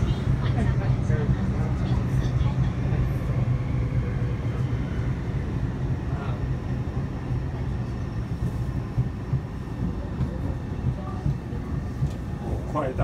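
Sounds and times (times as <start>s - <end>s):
train rumbling on tracks: 0.0s - 13.0s.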